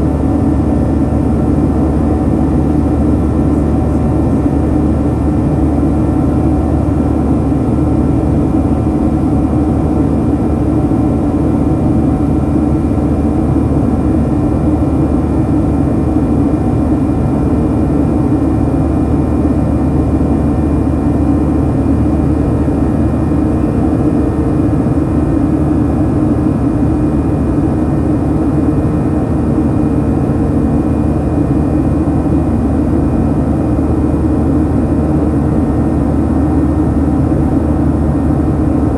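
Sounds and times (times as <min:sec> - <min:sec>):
airplane cabin jet engine drone: 0:00.0 - 0:38.9.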